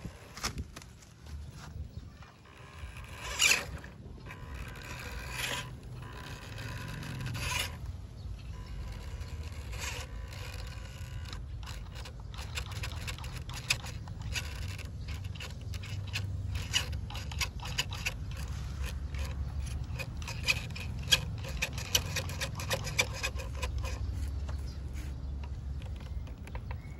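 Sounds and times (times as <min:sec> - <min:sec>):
toy truck drivetrain drone: 0:02.1 - 0:26.9.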